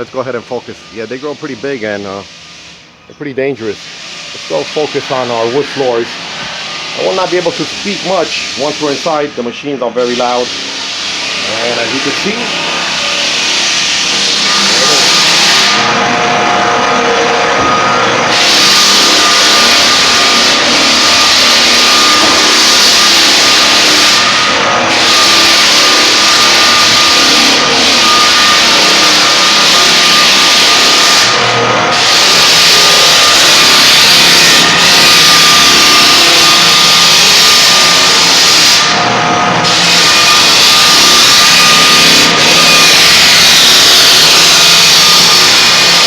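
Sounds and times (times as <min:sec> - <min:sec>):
floor sanding machine running: 0:00.0 - 0:46.0.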